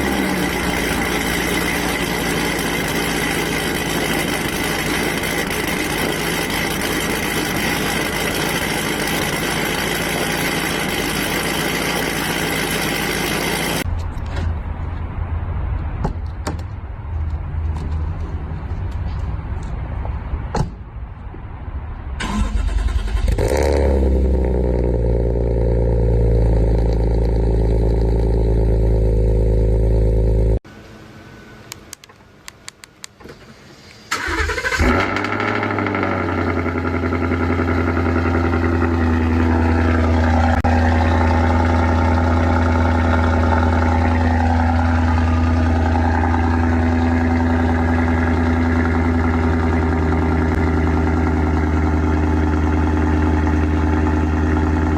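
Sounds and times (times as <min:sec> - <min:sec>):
car engine starting and idling: 0:00.0 - 0:13.9, 0:22.0 - 0:30.6, 0:32.9 - 0:54.9.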